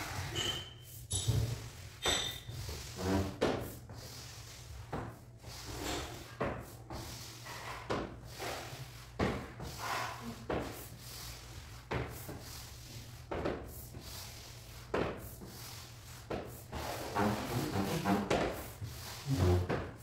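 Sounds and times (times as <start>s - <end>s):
squeegee scraping on tiles: 0.0s - 13.2s, 13.9s - 20.0s.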